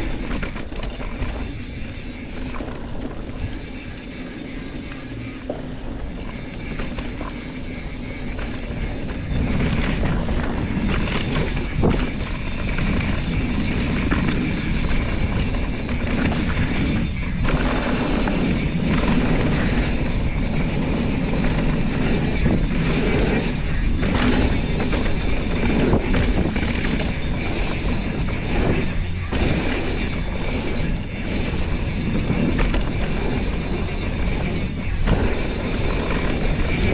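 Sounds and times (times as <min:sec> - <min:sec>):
bike tyres rumbling over dirt: 0:00.0 - 0:36.9
wind on microphone: 0:00.0 - 0:36.9.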